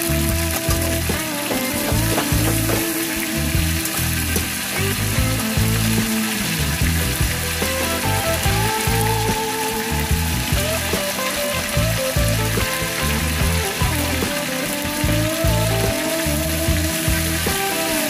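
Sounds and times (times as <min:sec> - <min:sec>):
chicken wings sizzling in oil: 0:00.0 - 0:18.0.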